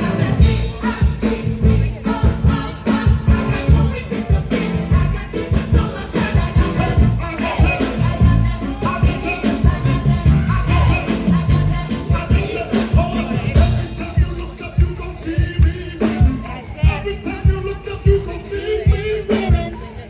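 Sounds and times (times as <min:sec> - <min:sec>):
gospel music with singing: 0:00.0 - 0:20.0
steady drum beat: 0:00.0 - 0:20.0.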